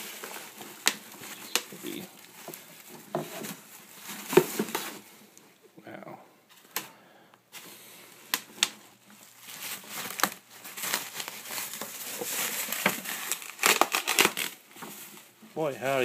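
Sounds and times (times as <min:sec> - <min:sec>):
bubble wrap crackles: 0:00.0 - 0:05.4, 0:07.5 - 0:16.0
bubble wrap crinkling: 0:00.0 - 0:05.4, 0:07.5 - 0:16.0.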